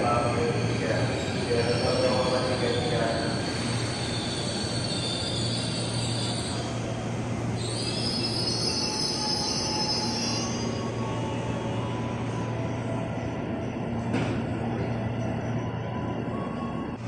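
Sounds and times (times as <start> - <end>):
train wheels squealing on rails: 0.0 - 14.0
train hum and rumble: 0.0 - 17.0.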